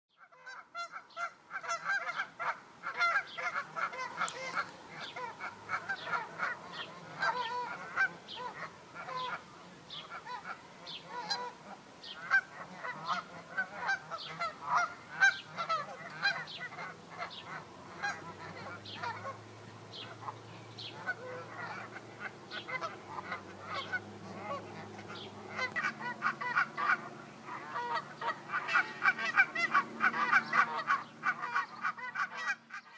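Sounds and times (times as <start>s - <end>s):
geese honking: 0.1s - 32.9s.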